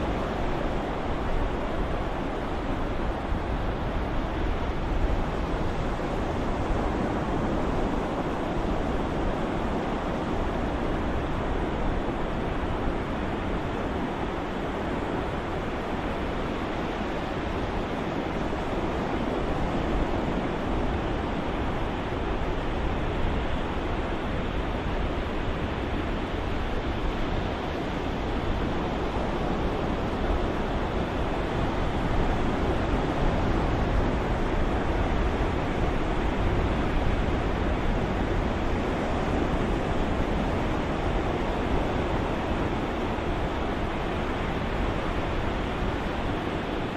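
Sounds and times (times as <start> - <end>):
ocean surf washing: 0.0 - 46.9.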